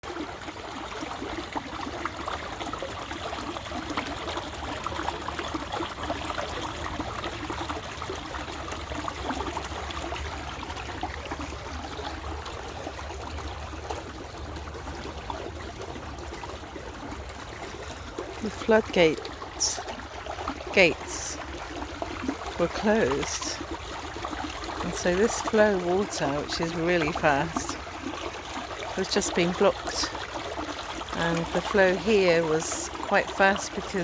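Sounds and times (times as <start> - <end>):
floodwater splashing and gurgling: 0.0 - 34.0
low rumble of water: 0.0 - 34.0.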